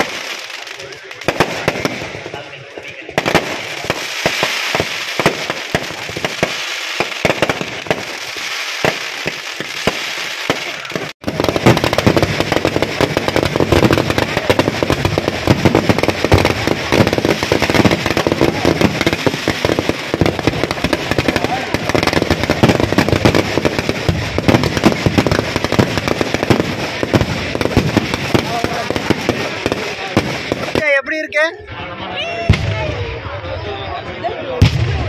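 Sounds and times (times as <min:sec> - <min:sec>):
fireworks bangs: 0:00.0 - 0:31.5, 0:32.4 - 0:33.4, 0:34.5 - 0:35.0
fireworks crackling: 0:00.0 - 0:31.6.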